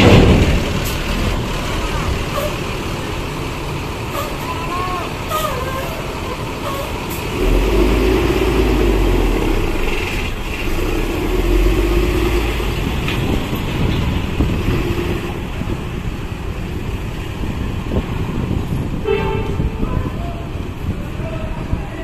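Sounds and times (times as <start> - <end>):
diesel bus engine rumble: 0.0 - 22.0.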